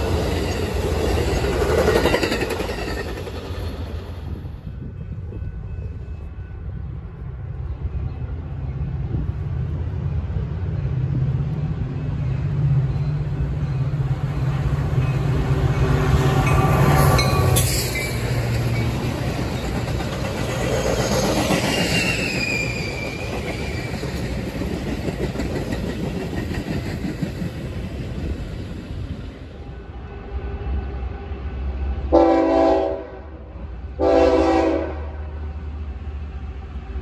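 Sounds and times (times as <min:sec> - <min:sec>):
locomotive engine hum: 0:00.0 - 0:37.0
train coaches rumbling past: 0:00.0 - 0:37.0.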